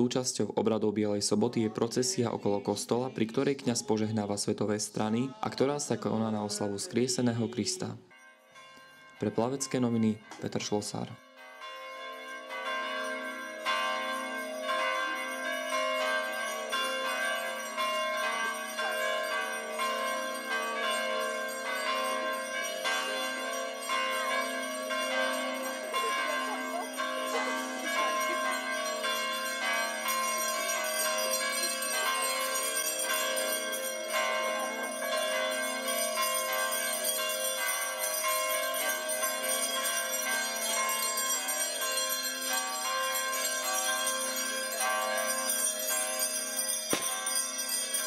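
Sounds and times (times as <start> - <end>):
bells ringing: 1.7 - 48.0.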